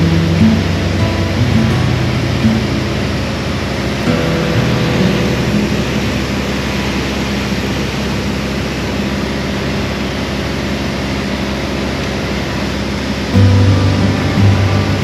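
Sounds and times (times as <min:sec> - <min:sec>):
propeller airplane engine drone: 0:00.0 - 0:15.0.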